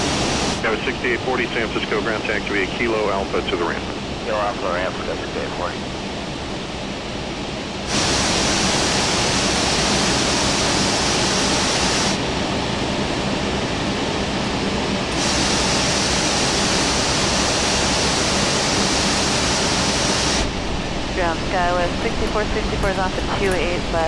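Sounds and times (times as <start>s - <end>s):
airliner taxiing roar: 0.0s - 24.0s
faint steady hum: 0.0s - 24.0s.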